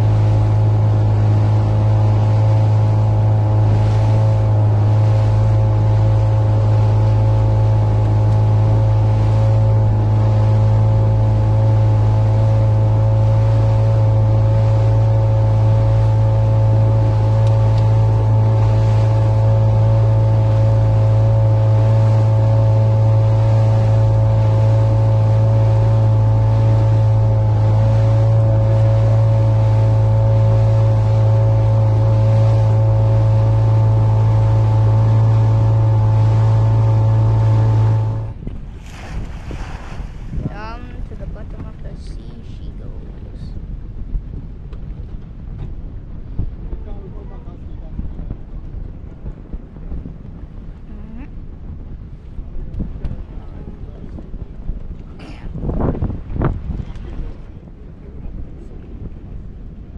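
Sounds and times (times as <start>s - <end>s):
motorboat engine droning: 0.0s - 59.9s.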